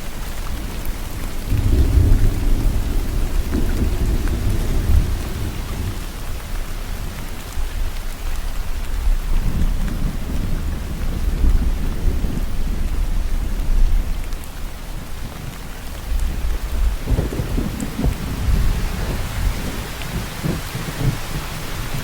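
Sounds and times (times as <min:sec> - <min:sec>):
steady rain falling: 0:00.0 - 0:22.0
rolling thunder rumble: 0:00.2 - 0:07.7, 0:08.9 - 0:22.0.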